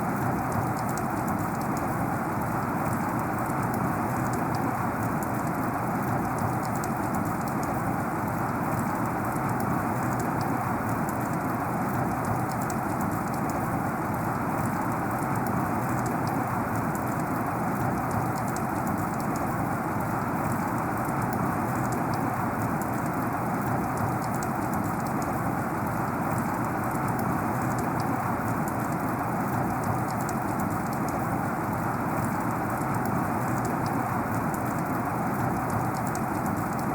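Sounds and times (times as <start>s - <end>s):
raindrop ticks: 0.1s - 36.9s
heavy rain: 1.4s - 36.9s.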